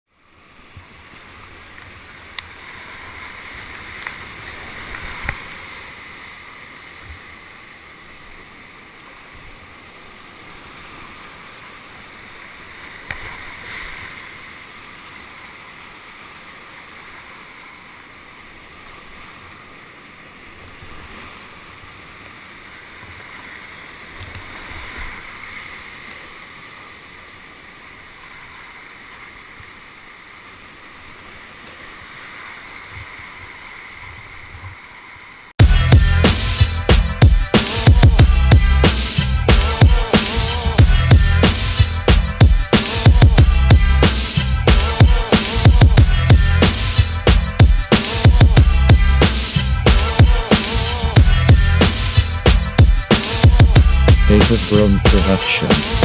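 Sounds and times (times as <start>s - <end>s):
rushing whitewater: 0.1s - 56.0s.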